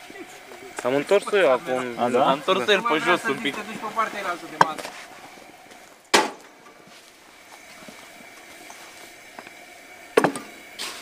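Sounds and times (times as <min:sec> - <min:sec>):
gas stove burner hissing: 0:00.0 - 0:11.0.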